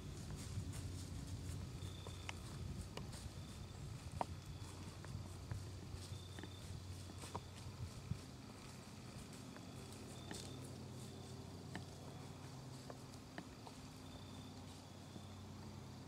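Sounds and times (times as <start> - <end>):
hooves crunching dry leaves: 0.0 - 16.0.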